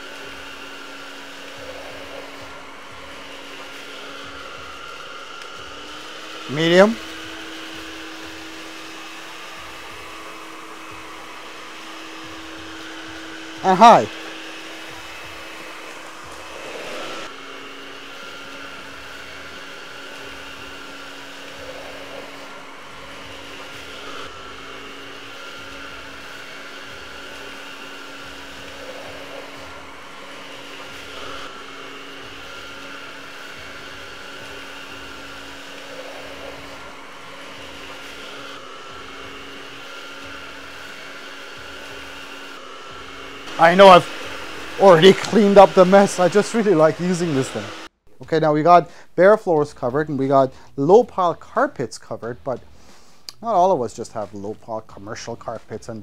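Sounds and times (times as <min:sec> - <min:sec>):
stick vacuum running: 0:00.0 - 0:49.0.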